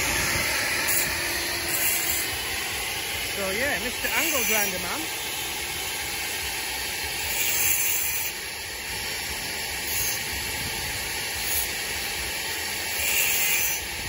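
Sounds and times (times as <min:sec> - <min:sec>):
angle grinder grinding concrete: 0:00.0 - 0:14.0.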